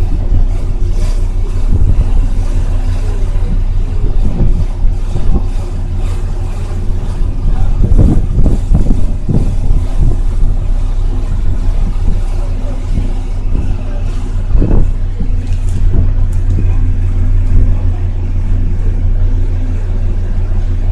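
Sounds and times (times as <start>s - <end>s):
ferry engine droning: 0.0s - 20.9s
wind rushing over microphone: 0.0s - 20.9s.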